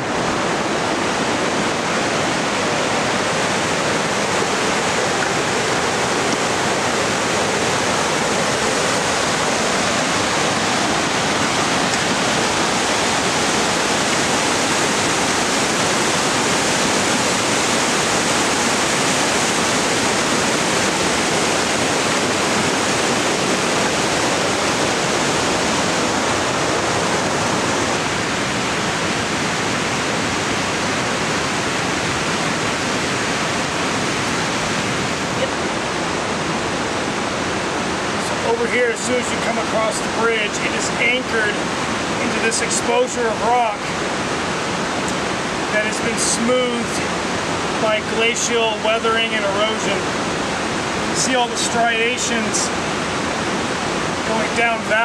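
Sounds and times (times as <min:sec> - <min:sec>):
water rushing over boulders: 0:00.0 - 0:55.0.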